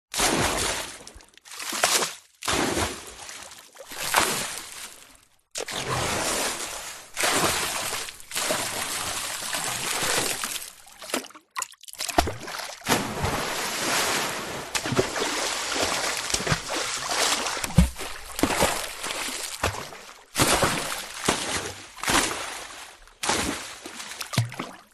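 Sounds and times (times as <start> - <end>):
water splashing and sloshing: 0.1 - 24.9.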